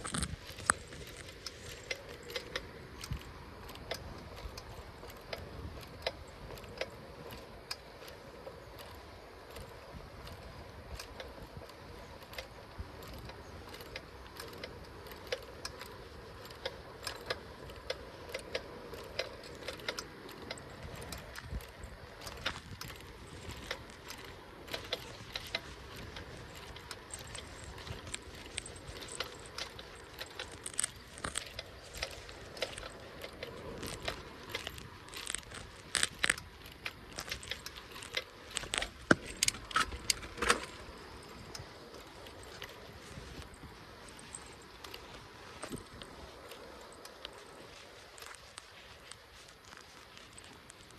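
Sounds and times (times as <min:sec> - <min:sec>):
bicycle rattling and clicking: 0:00.0 - 0:50.9
tyre and wind rumble: 0:00.0 - 0:50.9.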